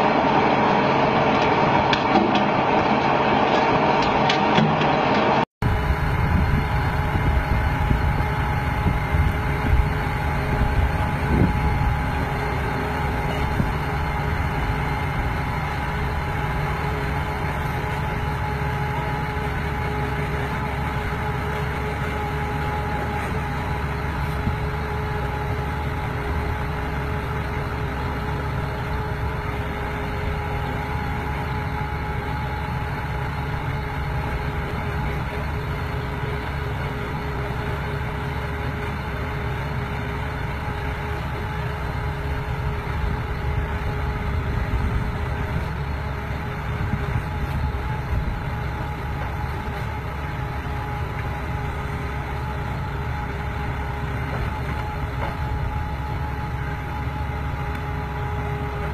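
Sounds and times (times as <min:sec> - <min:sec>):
steady whine: 0:00.0 - 0:58.9.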